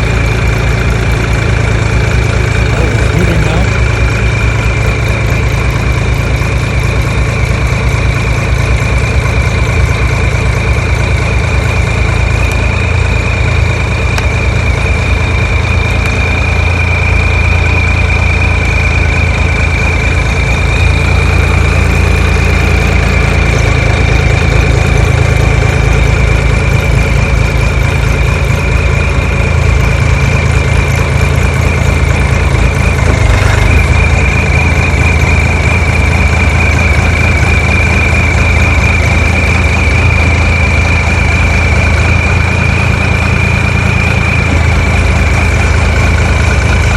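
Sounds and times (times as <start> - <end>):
diesel engine idling: 0.0 - 46.9
high engine whine: 0.0 - 46.9.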